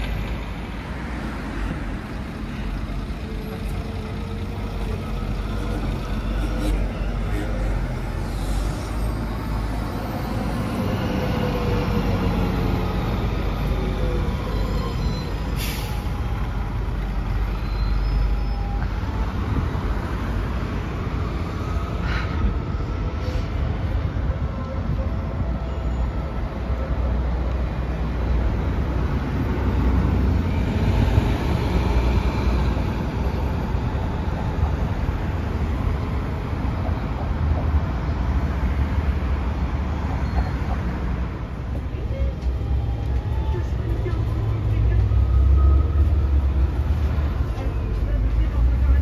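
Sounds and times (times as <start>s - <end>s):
trams rumbling past: 0.0s - 49.0s.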